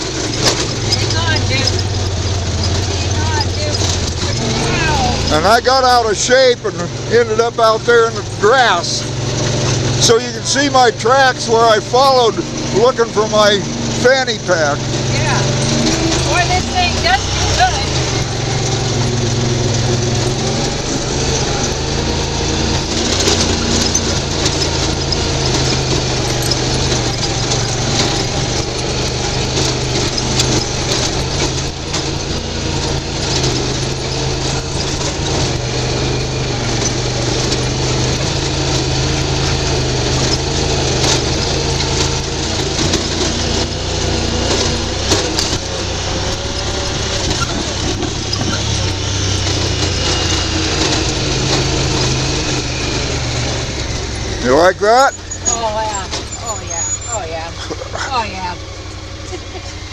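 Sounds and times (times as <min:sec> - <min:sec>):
knocks and rattles from vehicle: 0:00.0 - 0:59.9
utility vehicle engine under load: 0:00.0 - 0:59.9.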